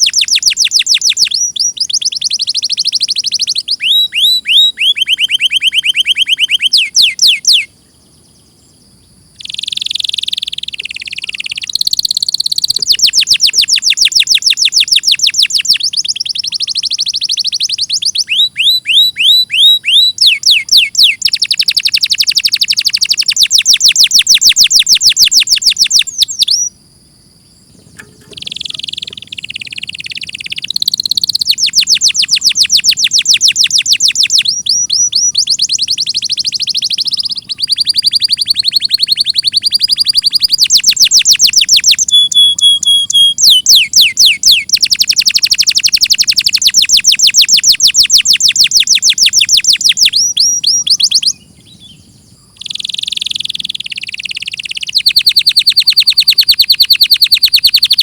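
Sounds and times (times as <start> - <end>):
canary singing: 0.0 - 26.8, 27.7 - 58.0.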